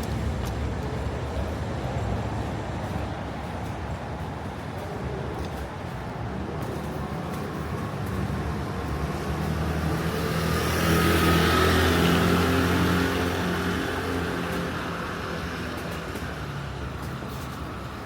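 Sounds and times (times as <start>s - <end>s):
tyres hissing on wet street: 0.0s - 18.0s.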